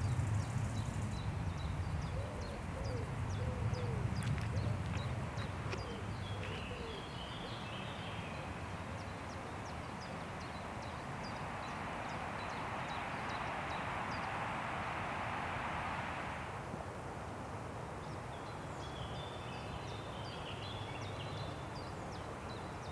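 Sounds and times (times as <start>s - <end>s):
wind rushing through trees: 0.0s - 22.9s.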